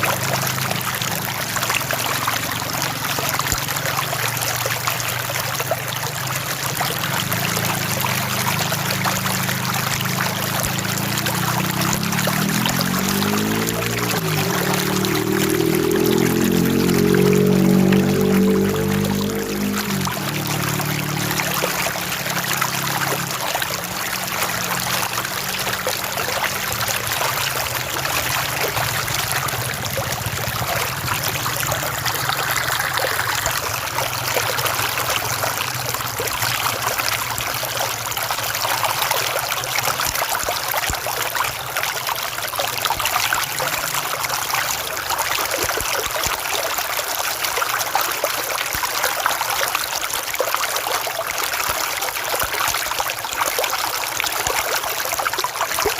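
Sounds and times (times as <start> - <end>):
river water flowing: 0.0 - 55.9.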